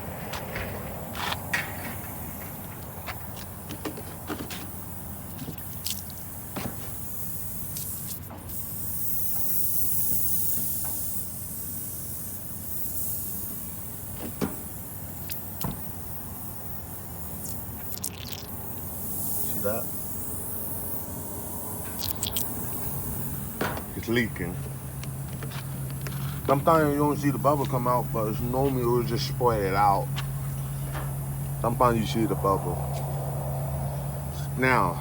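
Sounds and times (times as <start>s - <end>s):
spray hissing: 1.1s - 35.0s.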